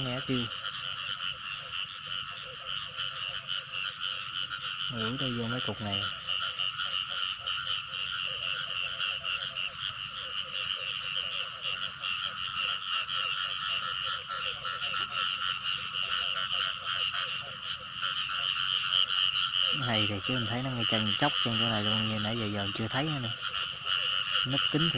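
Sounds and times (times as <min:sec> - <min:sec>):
frogs chorus trilling: 0:00.0 - 0:24.9.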